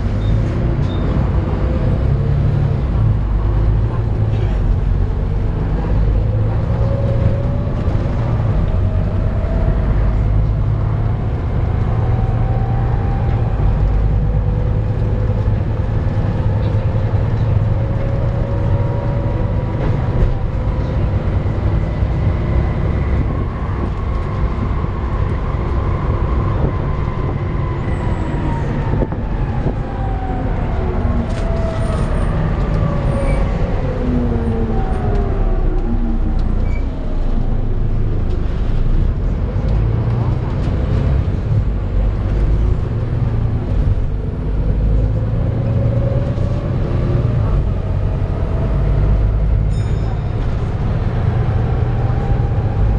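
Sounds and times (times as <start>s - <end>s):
bus drivetrain whine: 0.0s - 52.9s
bus engine rumble: 0.0s - 52.9s.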